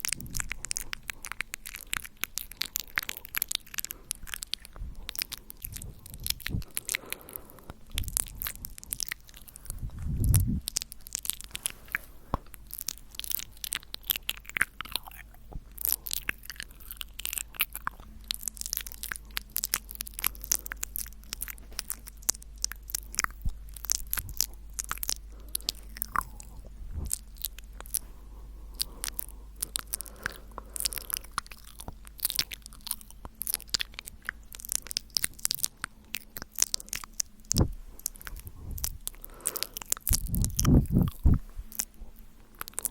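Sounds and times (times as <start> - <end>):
wet mouth clicks and smacks: 0.0 - 28.1, 28.7 - 42.9.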